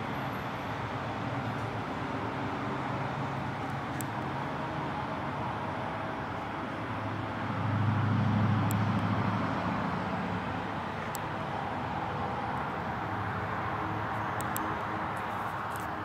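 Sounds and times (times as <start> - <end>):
outdoor traffic noise: 0.0 - 16.0
passing vehicle engine hum: 0.0 - 16.0.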